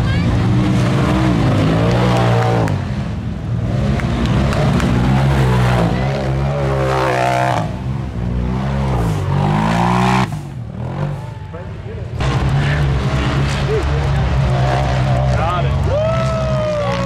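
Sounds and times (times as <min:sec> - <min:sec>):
utv engine revving: 0:00.0 - 0:17.0.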